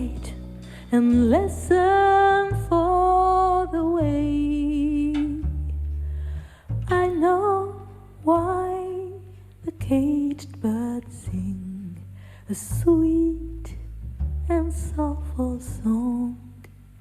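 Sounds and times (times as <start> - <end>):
double bass notes: 0.0 - 17.0.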